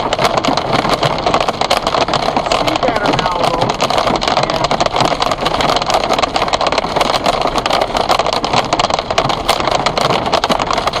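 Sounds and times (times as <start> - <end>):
hailstones clattering: 0.0 - 11.0.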